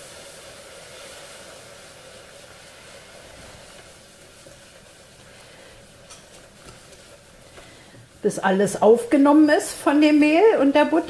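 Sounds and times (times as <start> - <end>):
roux sizzling in a pot: 0.0 - 11.0
whisking broth: 0.0 - 11.0.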